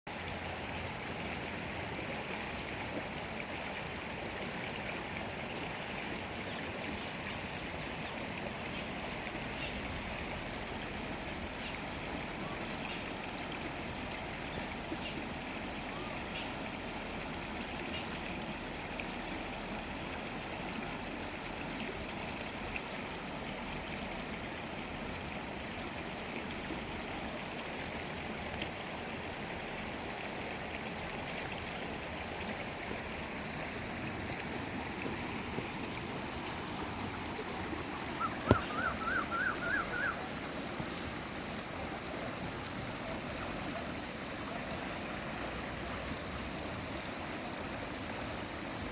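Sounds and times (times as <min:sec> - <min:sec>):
stream water rushing and gurgling: 0:00.1 - 0:48.9.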